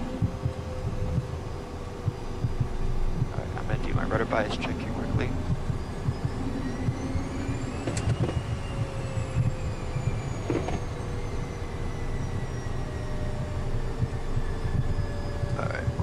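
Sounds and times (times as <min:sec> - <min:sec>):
jet turbine whine: 0:00.0 - 0:16.0
low rumble of airframe rolling: 0:00.0 - 0:16.0.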